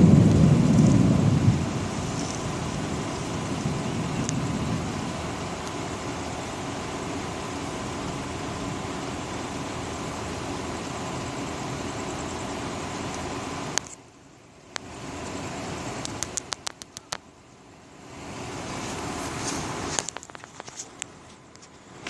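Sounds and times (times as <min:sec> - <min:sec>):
rain and wind rushing: 0:00.0 - 0:16.9, 0:17.9 - 0:21.2.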